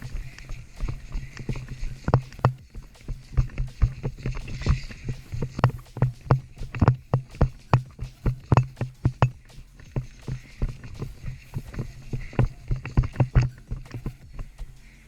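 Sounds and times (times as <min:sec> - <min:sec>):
footsteps jogging on ground: 0:00.0 - 0:15.0.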